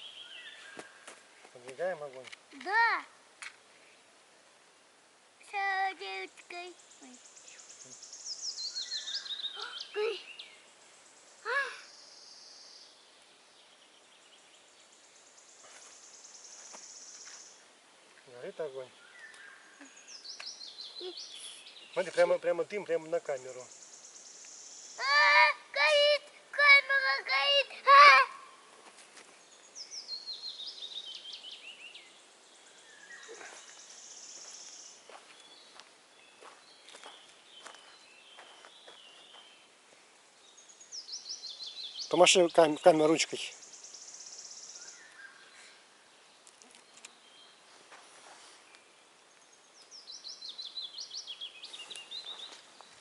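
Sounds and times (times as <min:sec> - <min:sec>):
songbird singing: 0:00.0 - 0:53.0.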